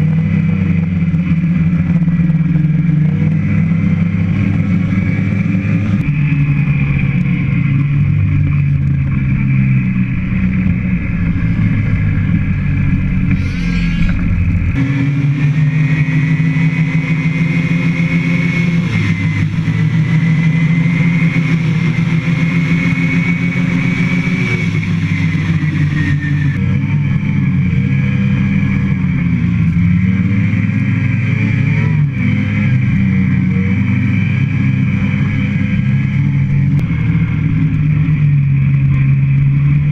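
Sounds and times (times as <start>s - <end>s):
vehicle engine running: 0.0s - 39.9s
high whine rising and falling: 0.6s - 39.9s.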